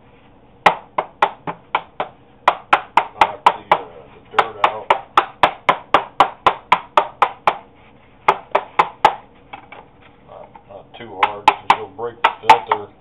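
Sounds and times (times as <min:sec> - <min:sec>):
filter knocking on hard surface: 0:00.7 - 0:09.9, 0:11.2 - 0:12.9.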